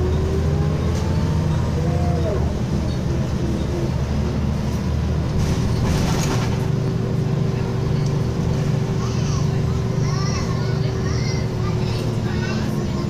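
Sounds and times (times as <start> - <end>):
bus engine drone: 0.0 - 13.0
road noise: 0.0 - 13.0.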